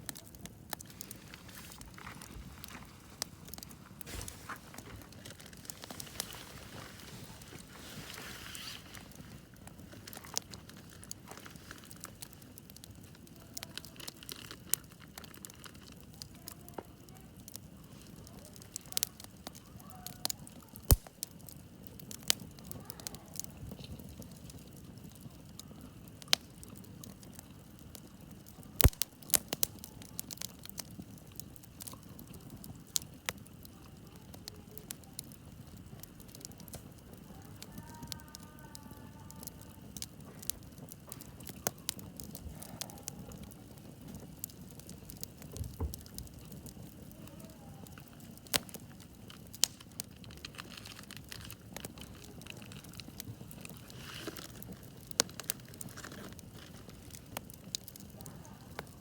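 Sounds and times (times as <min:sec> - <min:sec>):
sharp fire pops: 0:00.0 - 0:38.3, 0:39.3 - 0:47.3, 0:47.9 - 0:59.0
campfire crackling: 0:00.0 - 0:59.0
hiss of burning: 0:00.0 - 0:59.0.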